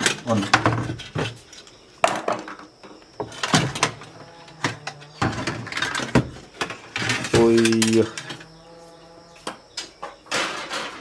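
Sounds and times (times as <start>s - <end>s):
sharp knocks and clatters: 0.0s - 8.5s, 9.4s - 11.0s.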